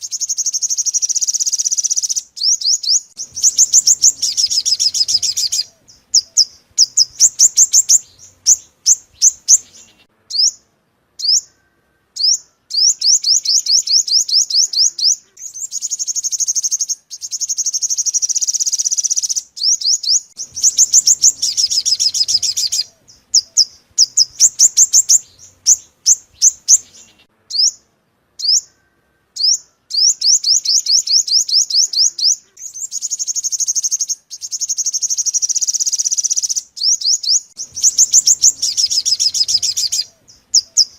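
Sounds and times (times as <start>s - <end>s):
bird trilling: 0.0s - 10.6s, 11.2s - 40.9s
sharp bird chips: 0.0s - 10.6s, 12.2s - 27.8s, 29.4s - 40.9s.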